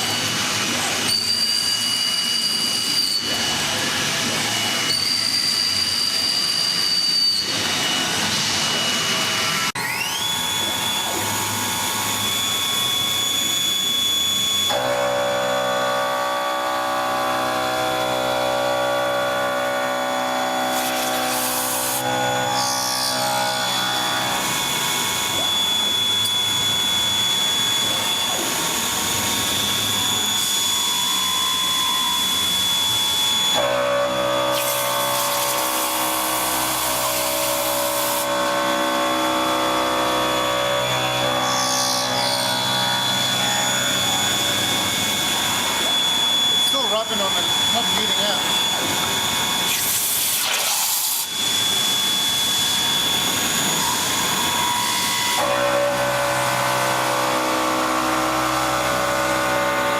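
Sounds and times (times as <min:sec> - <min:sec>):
milling spindle whining: 0:00.2 - 0:59.9.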